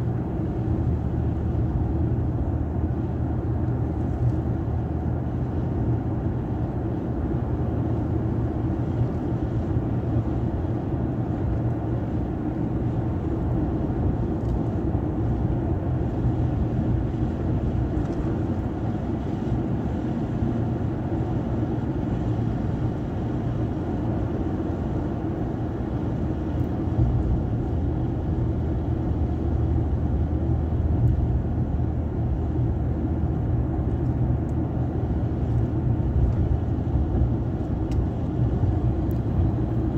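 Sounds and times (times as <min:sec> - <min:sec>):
vehicle cabin road rumble: 0:00.0 - 0:39.9.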